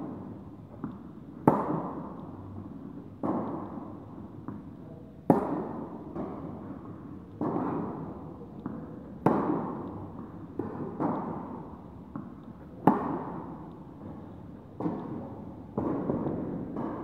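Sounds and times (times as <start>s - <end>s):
tennis ball bouncing: 0.1s - 17.0s
racket striking tennis ball: 0.8s - 2.6s, 3.2s - 6.7s, 7.4s - 17.0s.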